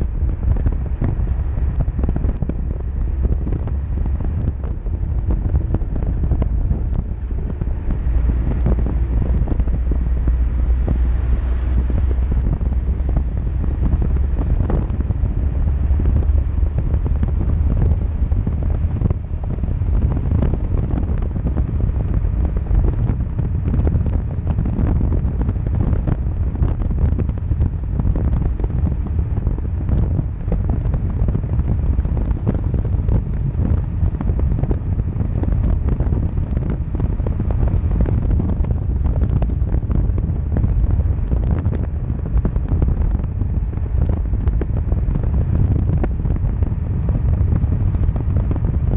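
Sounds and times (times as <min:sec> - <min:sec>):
car rumbling: 0:00.0 - 0:48.9
wind buffeting microphone: 0:00.0 - 0:48.9.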